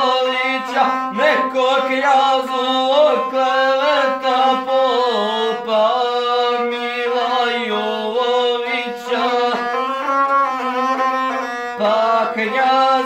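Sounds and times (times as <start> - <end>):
bowed one-stringed fiddle: 0.0 - 13.0.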